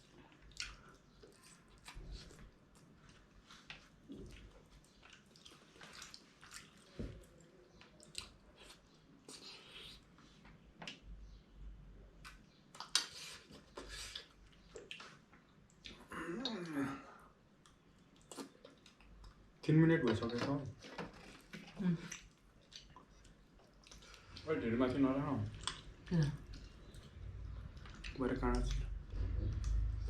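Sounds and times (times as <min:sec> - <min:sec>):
chewing with wet smacks: 0:00.0 - 0:11.1, 0:12.1 - 0:16.6, 0:17.6 - 0:20.4, 0:21.4 - 0:30.0.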